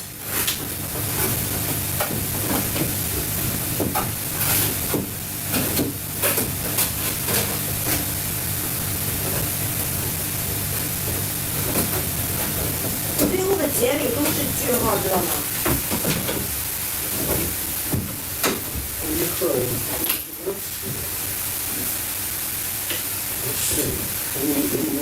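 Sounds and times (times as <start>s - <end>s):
food sizzling in a pan: 0.1s - 25.0s.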